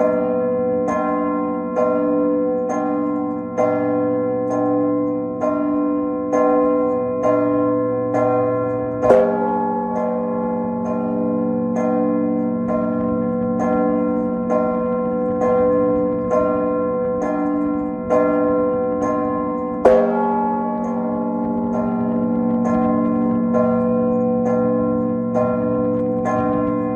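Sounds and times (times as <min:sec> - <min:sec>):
large bell stroke with deep hum: 0:00.0 - 0:26.9
small church bells ringing: 0:00.0 - 0:26.9.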